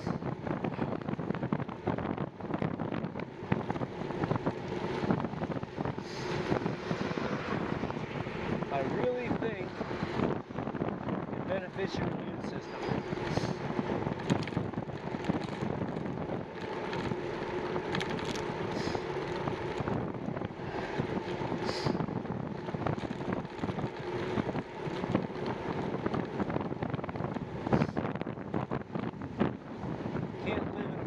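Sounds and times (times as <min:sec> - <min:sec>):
bicycle tyre and drivetrain noise: 0:00.0 - 0:31.0
wind buffeting microphone: 0:00.0 - 0:31.0.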